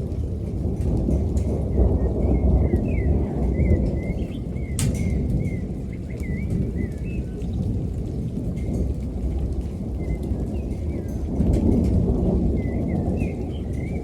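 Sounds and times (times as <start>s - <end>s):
rolling thunder rumbling: 0.0s - 14.0s.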